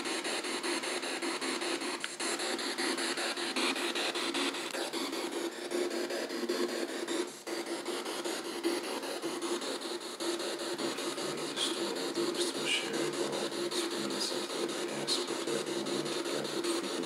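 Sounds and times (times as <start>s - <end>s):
radio static with rapid clicks: 0.0s - 17.0s
steady hum: 0.0s - 17.0s.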